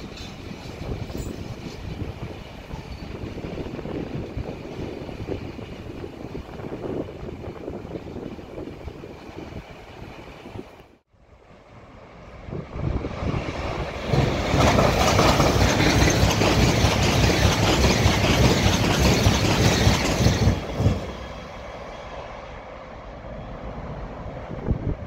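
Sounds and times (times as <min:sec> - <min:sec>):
train passing at speed: 0:00.0 - 0:25.0.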